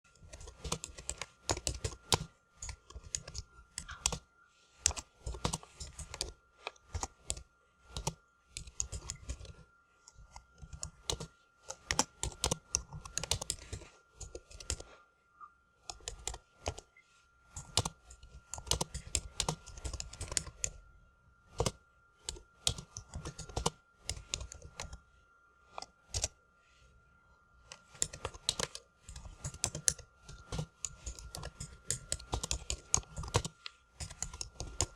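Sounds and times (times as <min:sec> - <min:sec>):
faint steady high tone: 0:00.1 - 0:34.9
computer keyboard typing: 0:00.2 - 0:14.9, 0:15.8 - 0:20.8, 0:21.5 - 0:25.0, 0:25.7 - 0:26.4, 0:27.6 - 0:34.9.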